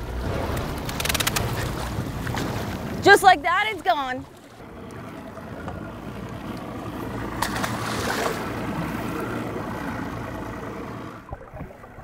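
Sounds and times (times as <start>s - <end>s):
water splashing against boat: 0.0s - 12.0s.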